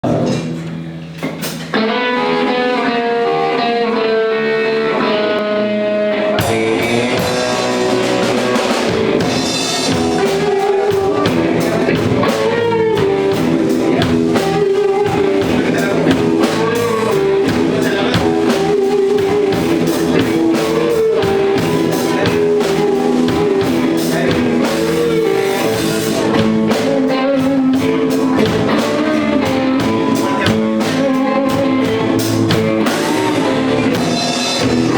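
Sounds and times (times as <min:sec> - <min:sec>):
blues band playing: 0:00.0 - 0:34.9
guitar playing single notes: 0:00.0 - 0:34.9.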